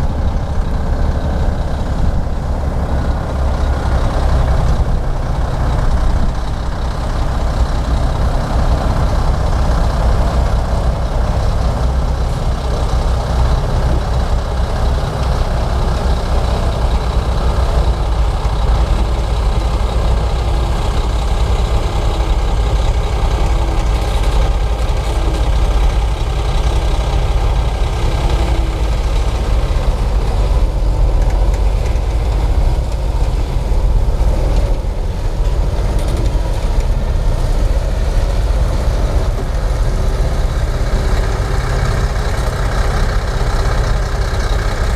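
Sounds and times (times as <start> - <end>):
bulldozer diesel engine rumbling: 0.0 - 44.9.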